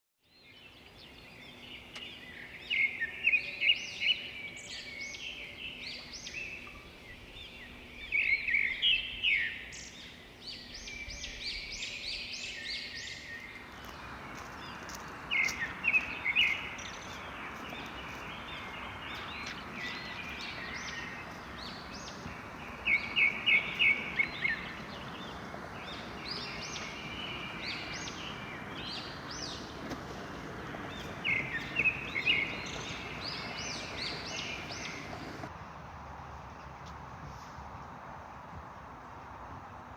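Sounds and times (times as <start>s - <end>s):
songbirds chirping: 0.2s - 35.5s
steady background hiss: 0.5s - 36.4s.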